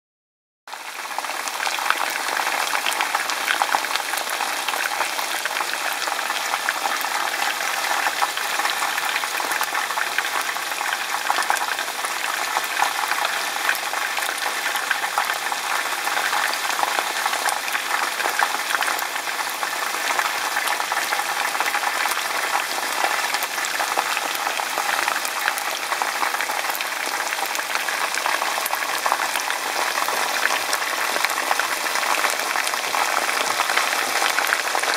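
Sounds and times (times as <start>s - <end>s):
chicken frying in oil: 0.7s - 34.9s.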